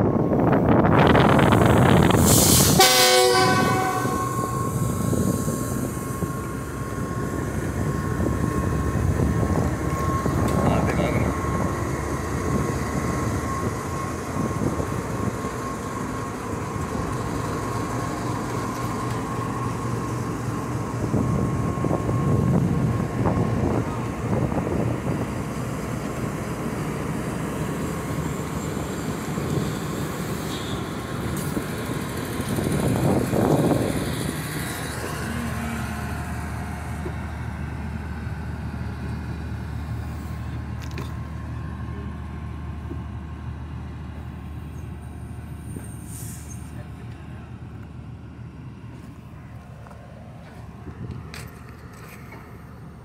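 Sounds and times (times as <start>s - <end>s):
passenger train rumbling on rails: 0.0s - 53.0s.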